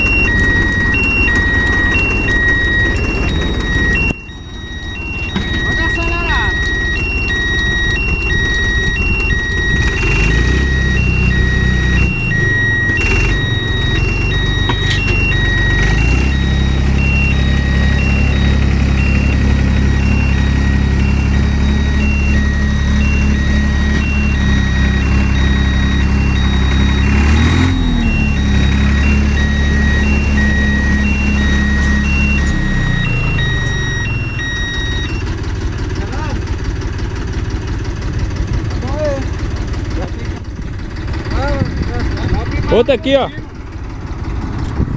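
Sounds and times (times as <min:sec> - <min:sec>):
two-tone warning beeper: 0:00.0 - 0:36.6
vehicle engine running: 0:00.0 - 0:44.9.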